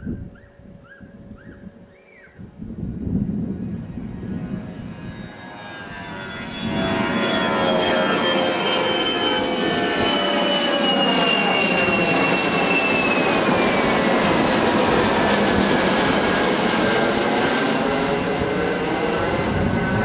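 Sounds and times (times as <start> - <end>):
jet engines roaring with high whine: 0.0 - 20.0.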